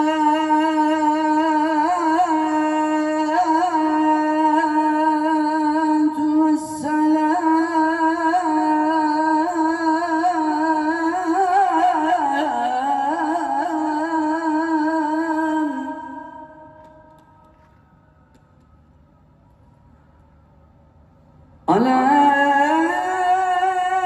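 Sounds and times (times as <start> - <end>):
man chanting through loudspeakers: 0.0 - 17.1, 21.7 - 24.0.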